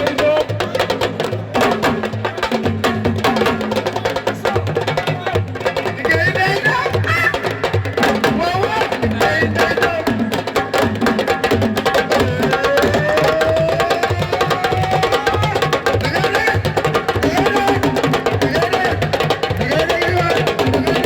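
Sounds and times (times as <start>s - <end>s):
hand drum percussion: 0.0s - 21.0s.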